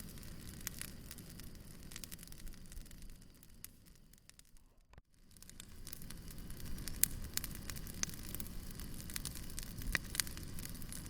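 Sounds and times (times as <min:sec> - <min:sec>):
sharp pops from fire: 0:00.0 - 0:11.0
wood fire crackling: 0:00.0 - 0:11.0.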